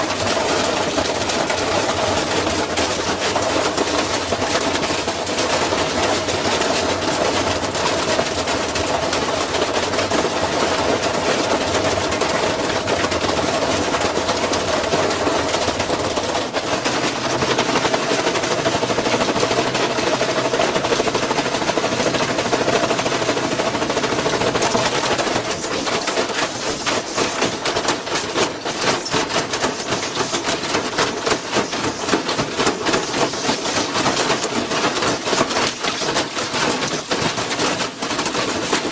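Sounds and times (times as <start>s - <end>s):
washing machine whine: 0.0s - 38.9s.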